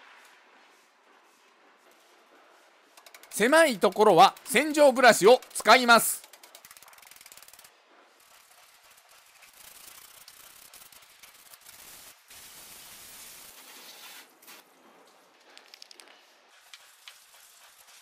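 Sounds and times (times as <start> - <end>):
brush scrubbing wet metal: 0.6 - 14.6, 16.5 - 18.0.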